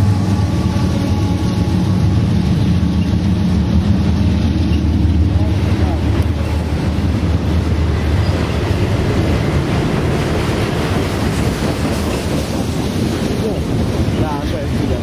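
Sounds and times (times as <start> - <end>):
freight train passing at speed: 0.0 - 15.0
train wheels running on rails: 0.0 - 15.0.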